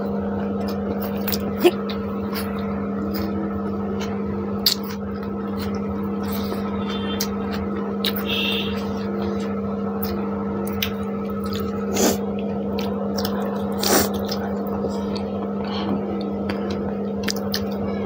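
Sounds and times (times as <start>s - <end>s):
people chewing food: 0.0s - 18.0s
steady droning hum: 0.0s - 18.0s.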